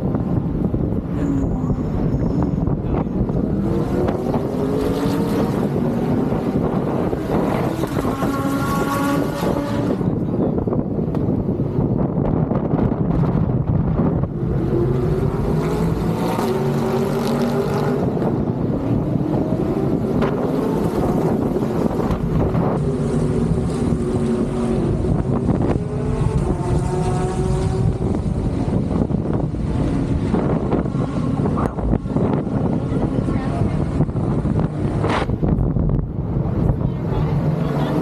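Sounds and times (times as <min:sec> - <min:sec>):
race car engines accelerating: 0:00.0 - 0:38.0.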